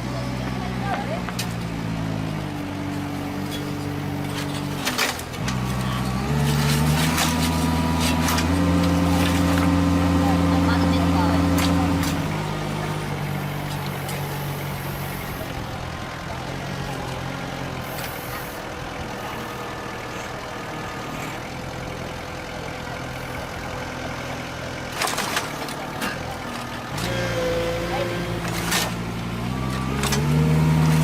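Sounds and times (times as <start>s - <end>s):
heavy machine engine running: 0.0s - 31.0s.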